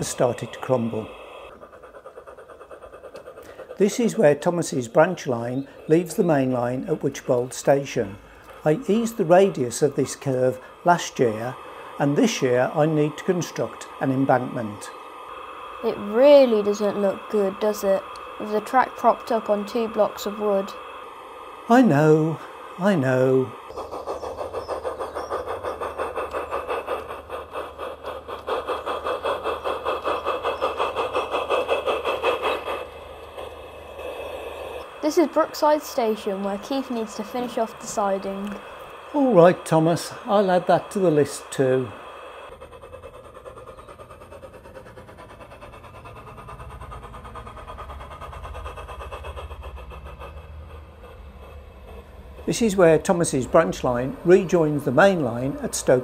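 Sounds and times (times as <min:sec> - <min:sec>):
model steam locomotive chuffing: 0:00.0 - 0:56.0.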